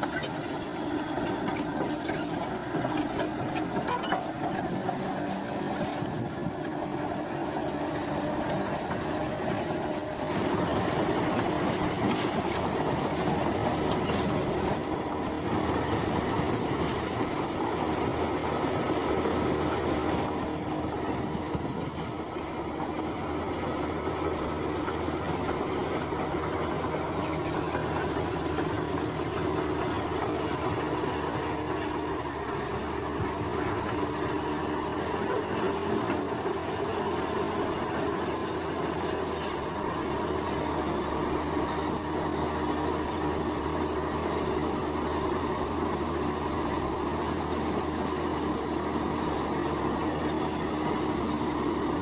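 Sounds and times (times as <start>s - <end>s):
bulldozer diesel engine: 0.0s - 52.0s.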